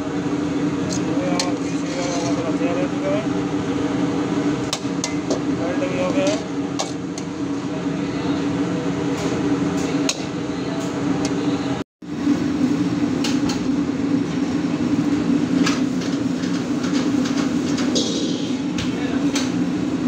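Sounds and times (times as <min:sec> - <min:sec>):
kitchen mechanical hum: 0:00.0 - 0:20.0.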